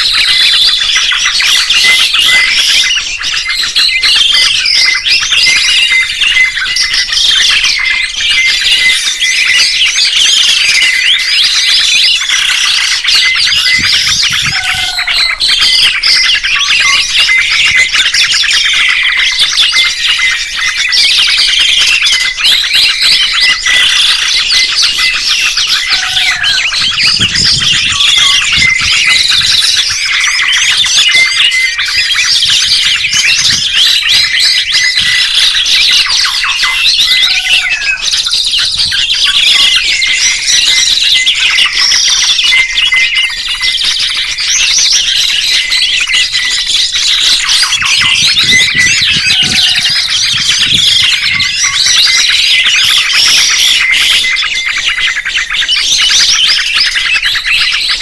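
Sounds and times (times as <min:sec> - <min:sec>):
lower bird call: 0:00.0 - 0:58.0
songbirds chirping and warbling: 0:00.0 - 0:58.0.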